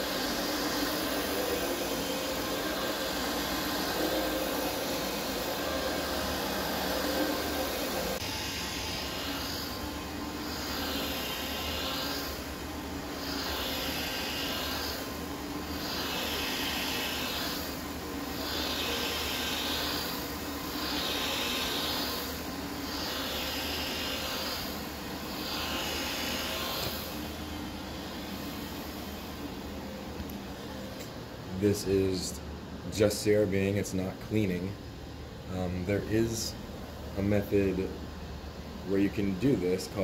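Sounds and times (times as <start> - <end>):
carpet brush machine running: 0.0 - 34.8.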